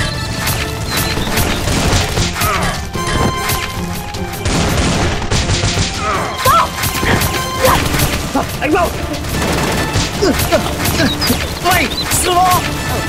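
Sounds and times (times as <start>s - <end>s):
action music: 0.0s - 13.0s
gunshots: 0.4s - 13.0s.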